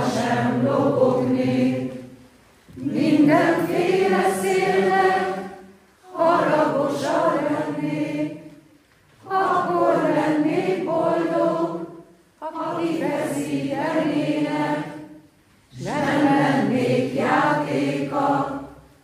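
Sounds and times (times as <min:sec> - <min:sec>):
choir singing unaccompanied: 0:00.0 - 0:19.0.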